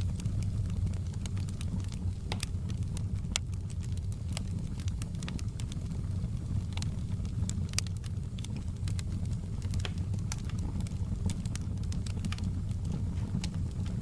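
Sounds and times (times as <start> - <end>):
low rumble of fire: 0.0 - 14.0
wood fire crackling: 0.0 - 14.0
sharp pops and snaps: 0.1 - 5.8, 6.7 - 14.0.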